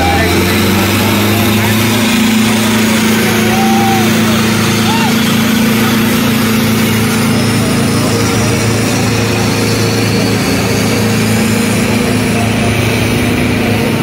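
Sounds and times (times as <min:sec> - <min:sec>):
tractor diesel engine at high revs: 0:00.0 - 0:14.0.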